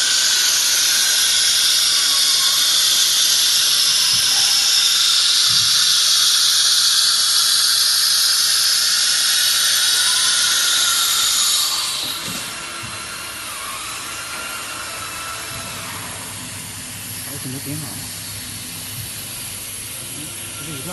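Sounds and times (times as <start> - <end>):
router spindle milling metal whine: 0.0 - 20.9.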